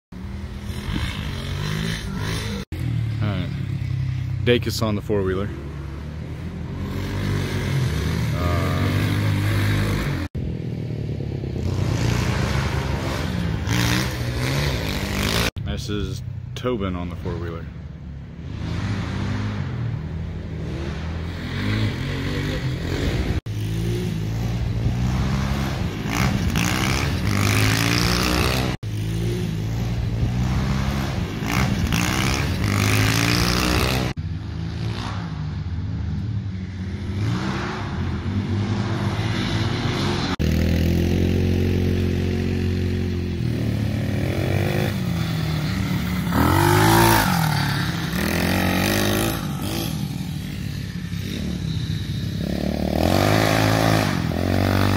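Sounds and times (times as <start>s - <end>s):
four-wheeler engine revving: 0.2s - 10.5s, 11.4s - 15.6s, 18.4s - 35.2s, 36.6s - 54.9s
dirt bike engine revving: 0.2s - 15.6s, 18.4s - 35.8s, 36.5s - 54.9s.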